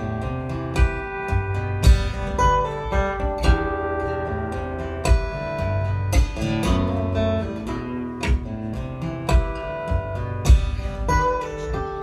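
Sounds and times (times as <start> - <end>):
fingerstyle acoustic guitar: 0.0 - 12.0
percussive knock on guitar: 0.7 - 4.0, 4.9 - 12.0.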